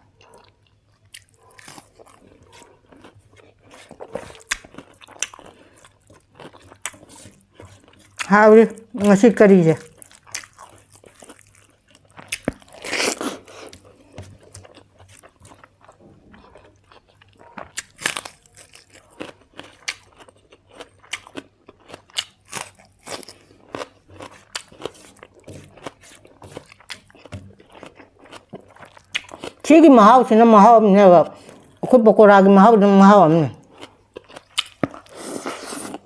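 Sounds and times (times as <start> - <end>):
person chewing crunchy food: 0.1 - 9.1, 9.8 - 29.7, 33.6 - 36.0.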